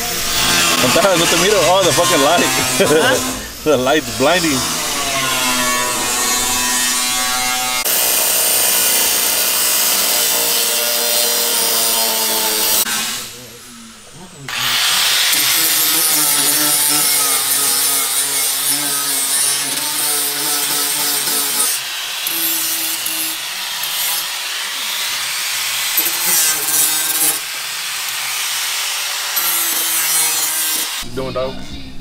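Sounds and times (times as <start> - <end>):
angle grinder grinding metal: 0.0 - 31.1.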